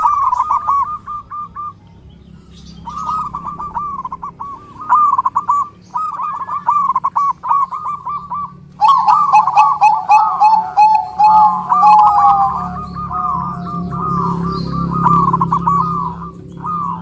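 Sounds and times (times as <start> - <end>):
lower dove coos: 0.0 - 2.0, 2.8 - 17.0
doves cooing: 0.0 - 17.0.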